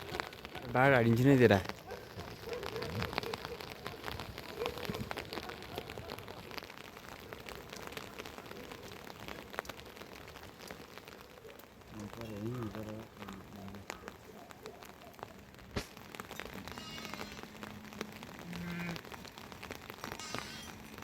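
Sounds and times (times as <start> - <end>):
raindrops falling: 0.0 - 21.0.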